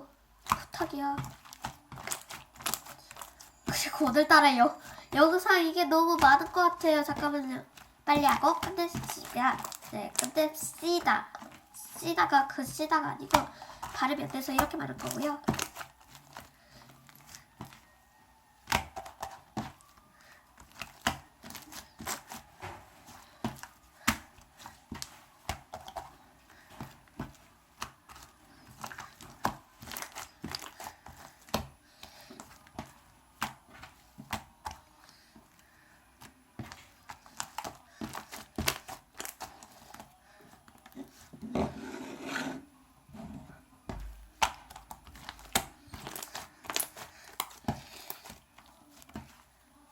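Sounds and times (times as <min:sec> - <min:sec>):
slime crackling and popping: 0:00.3 - 0:41.2, 0:43.9 - 0:49.5.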